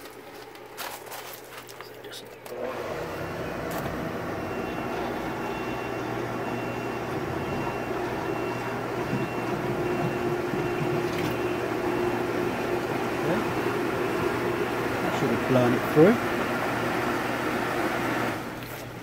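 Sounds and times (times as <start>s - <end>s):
pool pump motor hum: 2.4s - 19.0s
water flowing through pipes: 2.4s - 19.0s.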